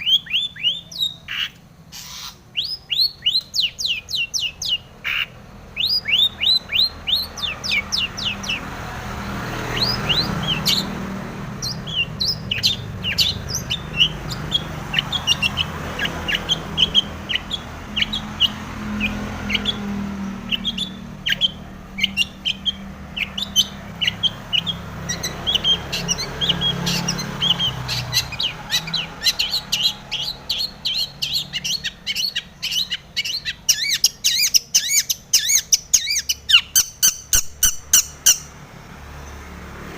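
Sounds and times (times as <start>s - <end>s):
bird singing varied song: 0.0s - 38.5s.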